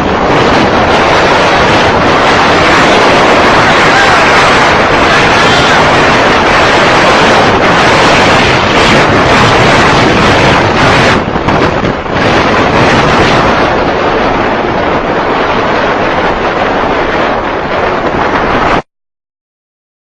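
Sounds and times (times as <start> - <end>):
wind buffeting microphone: 0.0 - 18.8.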